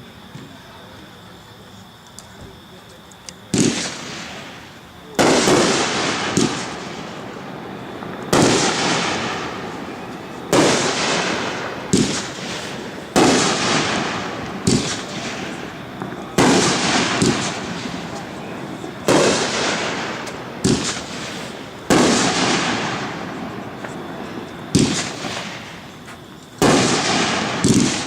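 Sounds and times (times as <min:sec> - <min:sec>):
firework crackling hiss: 0:02.1 - 0:28.0.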